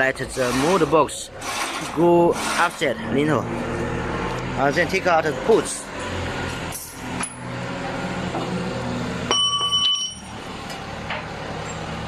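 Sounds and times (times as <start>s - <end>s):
low hum of machinery: 0.0s - 12.0s.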